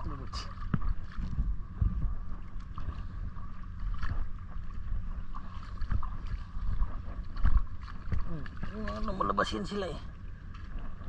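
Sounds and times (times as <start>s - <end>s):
footsteps wading through water: 0.0s - 11.0s
water splashing: 0.0s - 11.0s
wind rumbling on microphone: 0.0s - 11.0s.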